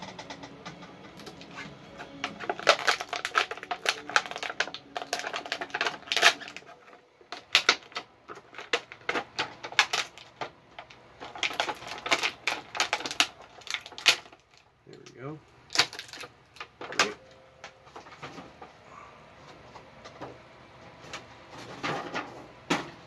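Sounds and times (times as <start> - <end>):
plastic clicking and clattering: 0.0 - 18.7.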